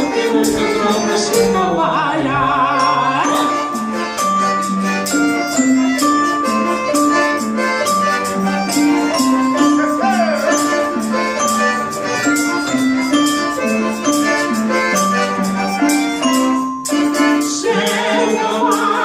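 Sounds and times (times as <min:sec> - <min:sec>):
folk melody of held notes: 0:00.0 - 0:19.0
hand percussion beat: 0:00.0 - 0:19.0.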